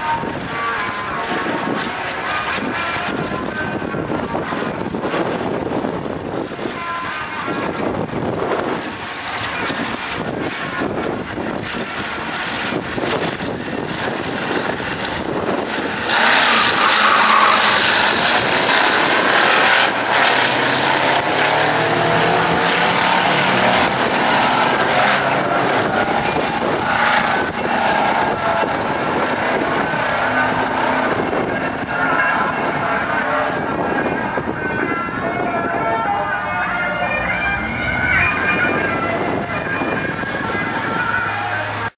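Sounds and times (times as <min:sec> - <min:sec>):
drag racing cars launching: 0:00.0 - 0:41.9.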